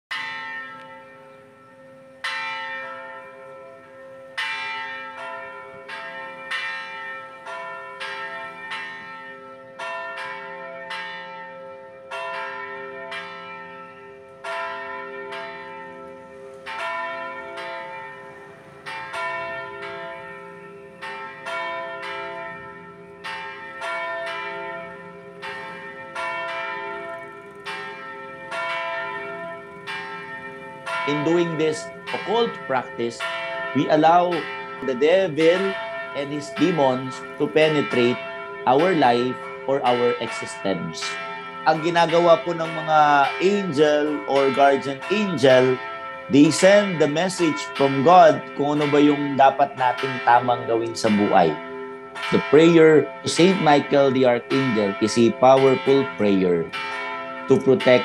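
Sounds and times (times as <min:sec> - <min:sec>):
church bells pealing: 0:00.1 - 0:58.0.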